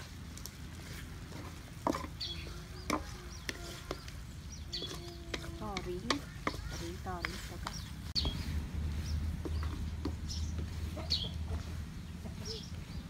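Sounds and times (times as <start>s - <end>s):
chickens clucking: 0.0s - 13.0s
spatula scraping a steel wok: 0.8s - 11.8s.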